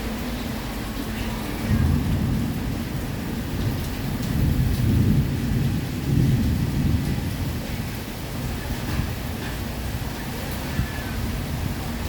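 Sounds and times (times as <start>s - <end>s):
heavy rain: 0.0s - 12.0s
thunder rumbling: 1.1s - 12.0s.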